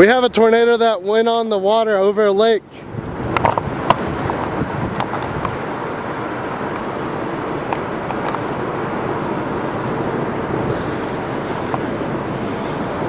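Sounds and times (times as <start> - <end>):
choppy lake water: 0.0 - 13.0
wind rushing on microphone: 0.0 - 13.0.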